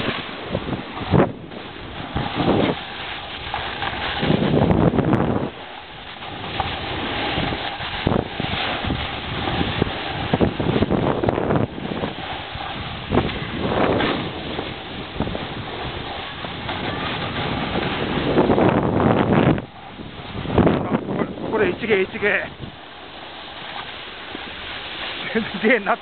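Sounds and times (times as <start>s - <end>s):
skis scraping over packed snow: 0.0s - 26.0s
wind buffeting microphone: 0.0s - 26.0s.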